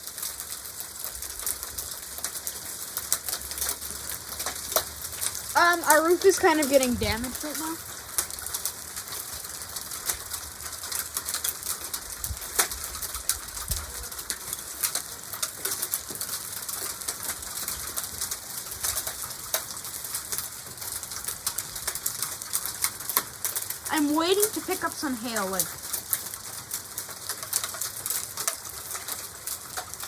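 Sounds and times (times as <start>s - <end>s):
hailstones pelting a roof: 0.0s - 30.0s.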